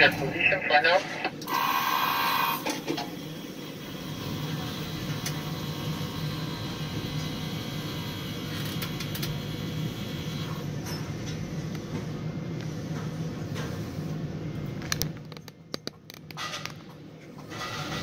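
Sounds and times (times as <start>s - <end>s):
low hum in crane cab: 0.0s - 18.0s.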